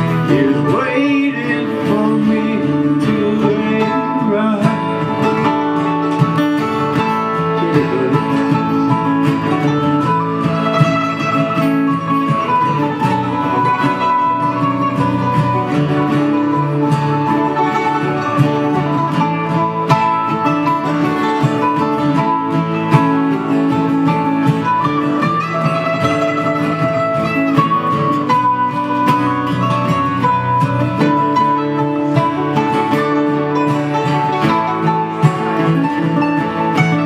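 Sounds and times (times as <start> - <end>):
acoustic guitars playing: 0.0 - 37.0.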